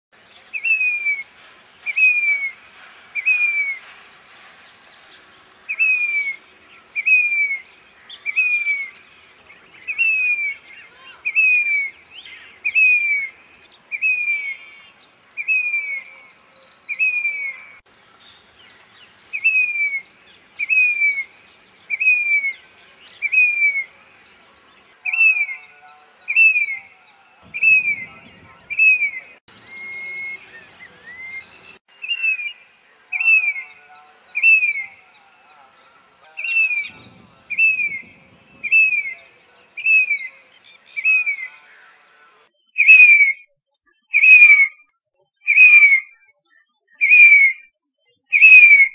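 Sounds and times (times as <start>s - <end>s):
cuckoo whistled calls: 0.5s - 3.9s, 5.6s - 9.1s, 9.8s - 14.8s, 15.4s - 17.8s, 19.3s - 24.2s, 25.0s - 35.1s, 36.2s - 41.7s, 42.6s - 48.9s.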